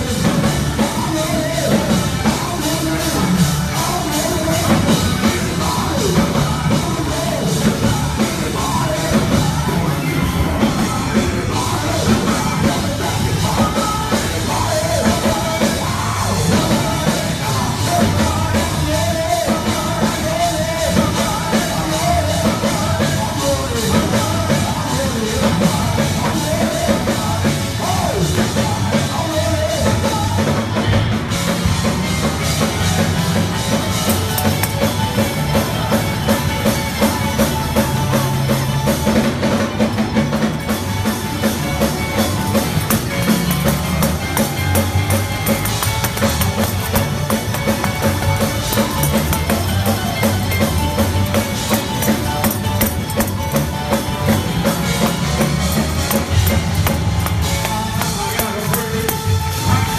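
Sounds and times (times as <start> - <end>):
gospel band playing: 0.0 - 59.9
man singing and shouting: 0.0 - 59.9.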